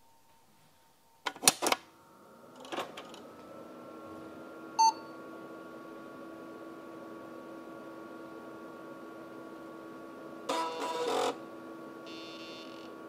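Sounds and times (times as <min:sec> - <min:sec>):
computer fans whirring: 0:01.2 - 0:13.0.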